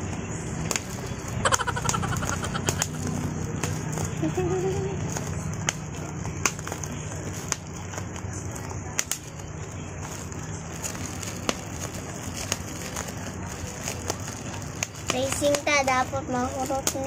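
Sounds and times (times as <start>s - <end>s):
bubble wrap popping: 0.7s - 17.0s.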